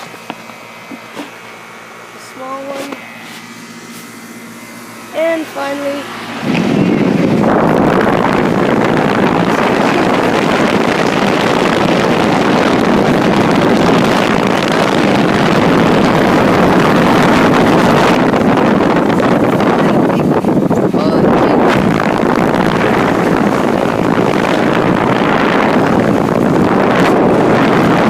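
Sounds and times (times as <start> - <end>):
air conditioner fan rushing: 0.0 - 28.0
wind buffeting microphone: 4.6 - 28.0.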